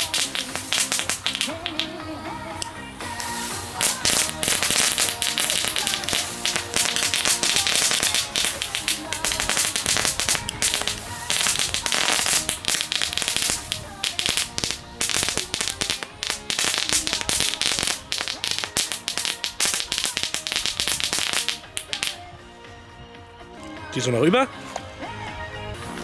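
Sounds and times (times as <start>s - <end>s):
firecrackers crackling: 0.0s - 22.3s.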